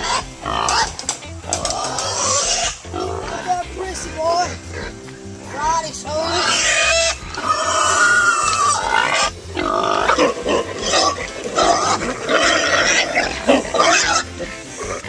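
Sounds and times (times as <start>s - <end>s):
pig squealing loudly: 0.0s - 15.0s.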